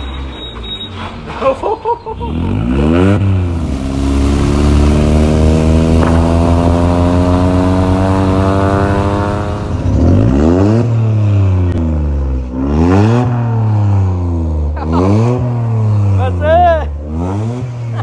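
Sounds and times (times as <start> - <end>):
car engine revving loudly: 2.3 - 18.0.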